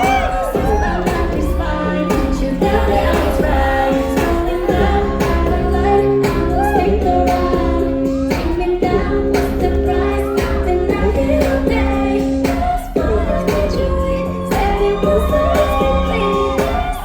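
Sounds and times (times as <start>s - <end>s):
pop backing track with heavy bass: 0.0s - 17.0s
woman singing pop song: 0.0s - 17.0s.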